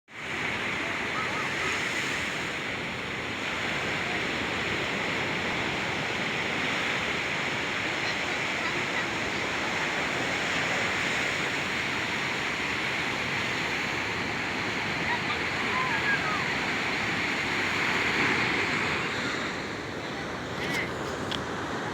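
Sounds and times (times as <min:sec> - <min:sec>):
ocean surf washing onto beach: 0:00.1 - 0:21.9.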